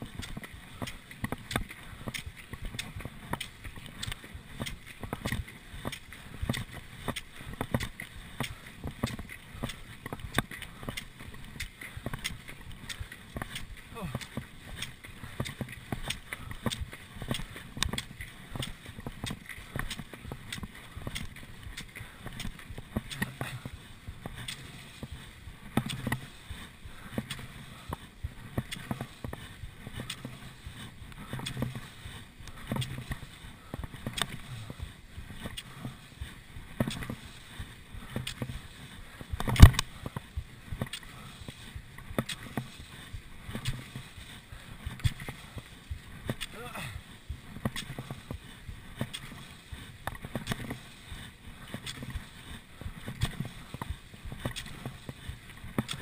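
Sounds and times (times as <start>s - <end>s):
ski poles clicking: 0.0s - 56.0s
skis swishing on snow: 0.0s - 56.0s.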